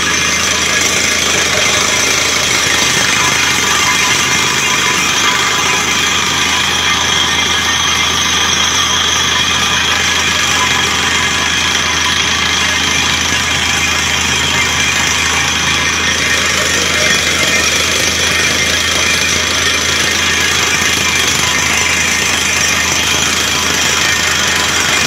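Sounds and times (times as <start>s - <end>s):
drilling rig engine and machinery: 0.0s - 25.0s.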